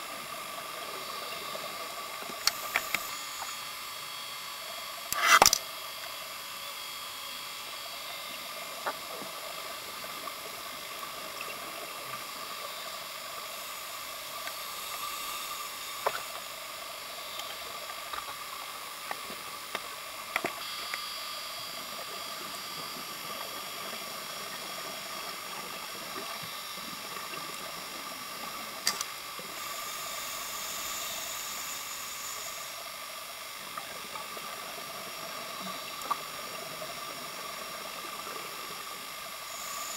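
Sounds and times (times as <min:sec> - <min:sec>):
faint hum: 0:00.0 - 0:39.9
steady underwater hiss: 0:00.0 - 0:39.9.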